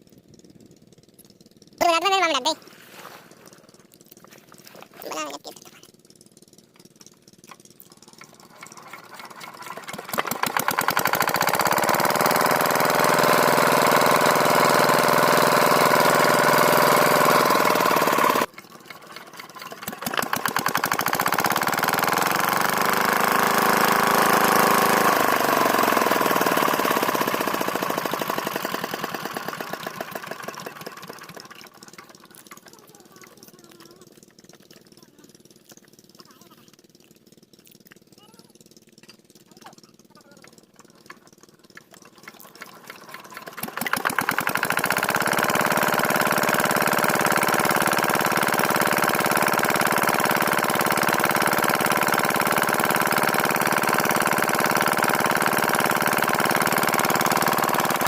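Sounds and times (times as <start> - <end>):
diesel pump engine knocking: 5.6 - 58.0.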